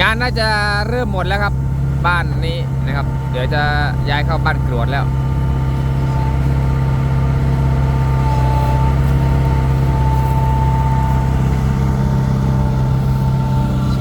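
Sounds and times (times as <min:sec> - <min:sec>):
heavy diesel engine humming: 0:00.0 - 0:14.0
thin steady whine: 0:00.0 - 0:14.0.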